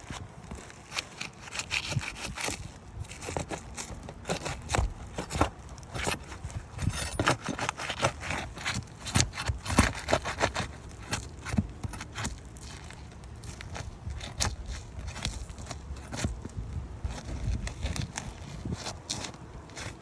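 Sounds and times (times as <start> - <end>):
scraping and crackling roof shingles: 0.0 - 20.0.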